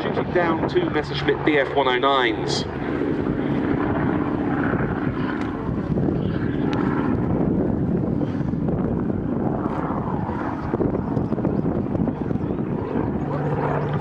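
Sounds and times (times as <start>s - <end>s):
propeller plane flying past: 0.0s - 14.0s.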